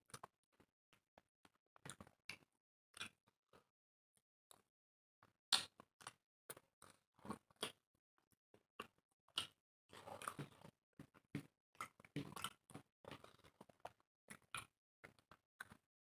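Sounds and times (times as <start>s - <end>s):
people chewing and crunching: 0.1s - 3.6s, 5.6s - 7.8s, 8.8s - 15.9s.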